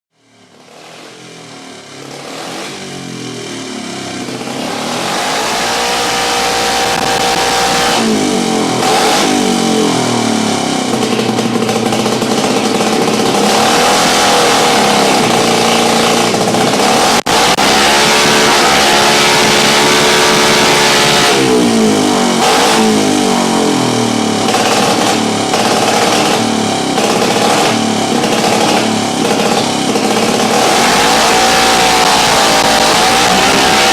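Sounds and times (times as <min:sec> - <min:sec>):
race engine revving: 0:00.5 - 0:33.9.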